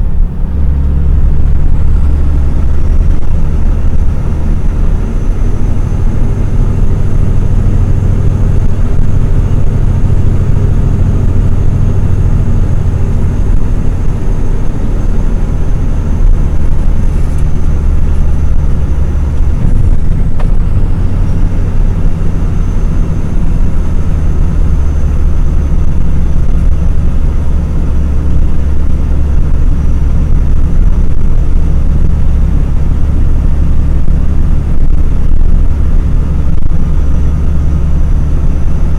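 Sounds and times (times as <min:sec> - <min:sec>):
diesel engine drone: 0:00.0 - 0:38.9
faint high whine: 0:00.0 - 0:38.9.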